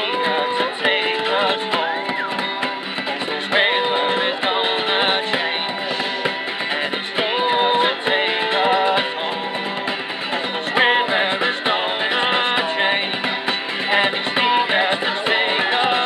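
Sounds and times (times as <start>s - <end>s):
men singing folk song: 0.0s - 16.0s
strummed acoustic guitar: 0.0s - 16.0s.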